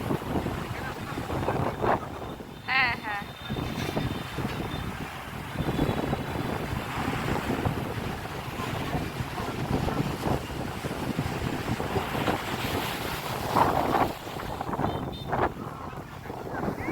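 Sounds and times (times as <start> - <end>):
sea waves washing onto beach: 0.0 - 16.9
wind buffeting microphone: 0.0 - 16.9.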